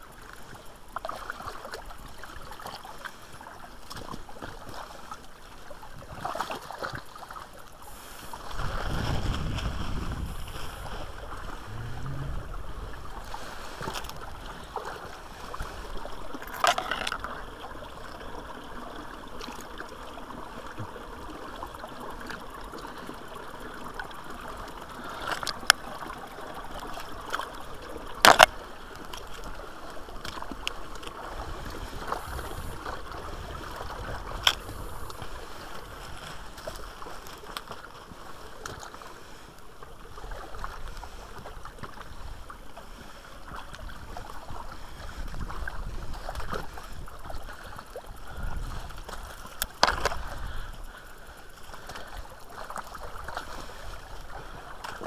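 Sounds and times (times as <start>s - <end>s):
brook trickling over stones: 0.0s - 55.0s.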